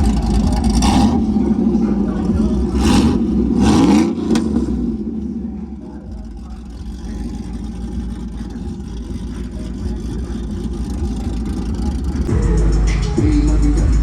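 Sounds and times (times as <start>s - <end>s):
bass-heavy music: 0.0s - 14.0s
vehicle engine rumbling: 0.0s - 14.0s.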